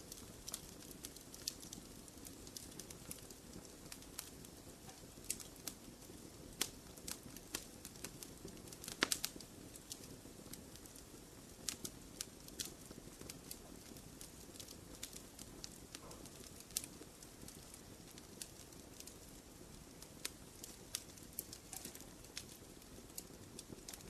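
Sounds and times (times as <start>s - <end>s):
fire crackling: 0.0s - 24.0s
sharp pops of fire: 0.0s - 24.0s.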